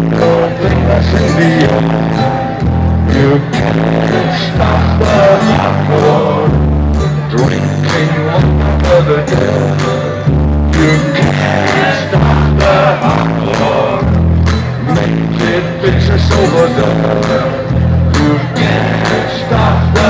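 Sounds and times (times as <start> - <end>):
hard dance music over pa: 0.0 - 20.0
heavy bass note: 0.0 - 20.0.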